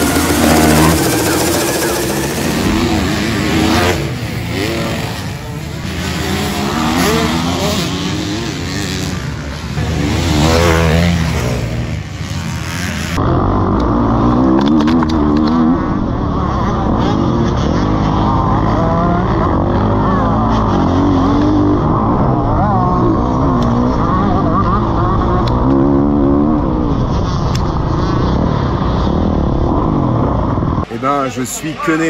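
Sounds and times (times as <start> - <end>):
motocross bike engine revving: 0.0 - 30.9.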